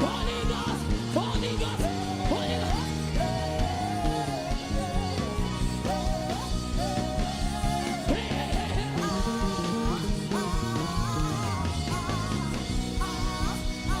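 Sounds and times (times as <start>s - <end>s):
steady bass line: 0.0s - 14.0s.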